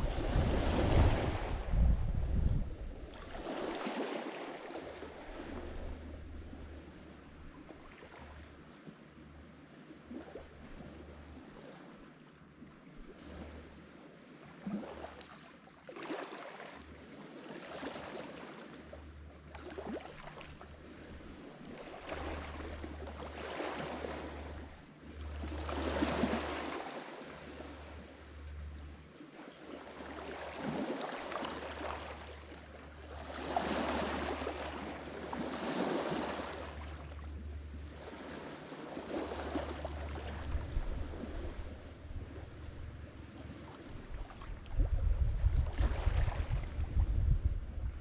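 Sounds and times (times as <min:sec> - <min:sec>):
waves breaking on shore: 0:00.0 - 0:08.6, 0:13.0 - 0:48.0.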